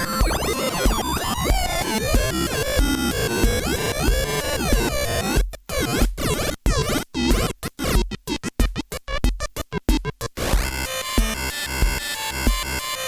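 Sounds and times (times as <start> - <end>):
stuttering synth electronic music: 0.0 - 13.0.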